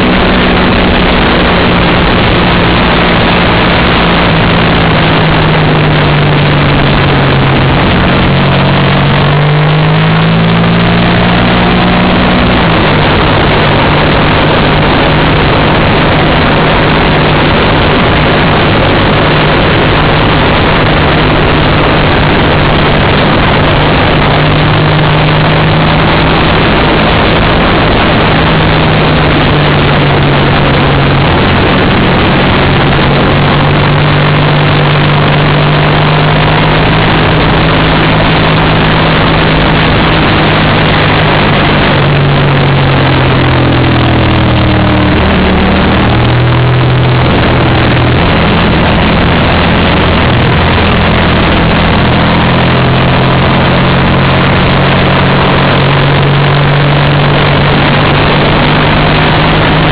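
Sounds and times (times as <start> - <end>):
racing motorcycle engine: 0.0 - 59.9
wind rush: 0.0 - 59.9.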